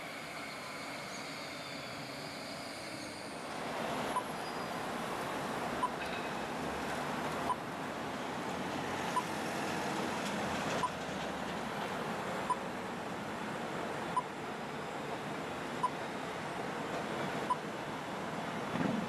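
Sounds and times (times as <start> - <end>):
tram and street traffic: 0.0 - 19.0.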